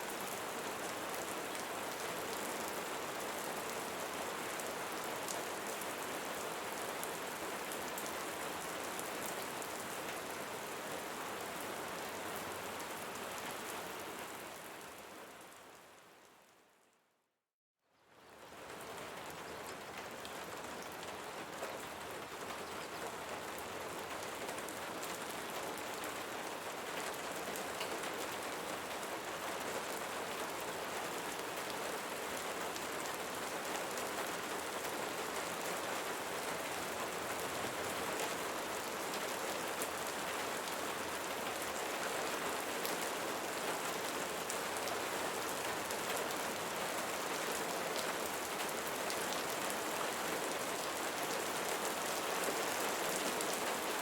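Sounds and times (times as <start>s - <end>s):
steady rainfall: 0.0s - 16.7s, 18.1s - 54.0s.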